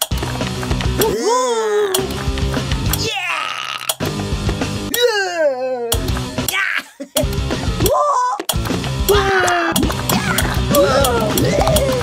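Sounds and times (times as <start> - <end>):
cartoon music with steady beat: 0.0 - 12.0.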